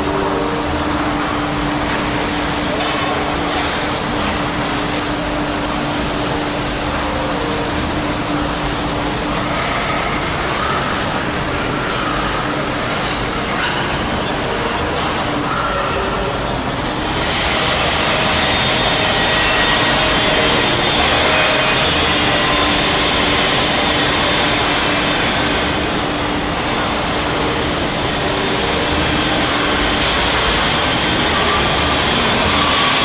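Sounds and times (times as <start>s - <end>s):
machine rumble and hiss: 0.0s - 33.0s.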